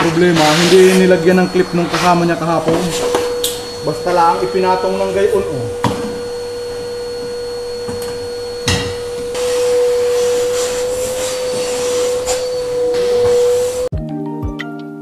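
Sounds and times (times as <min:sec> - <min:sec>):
vacuum cleaner whining: 0:00.0 - 0:13.9.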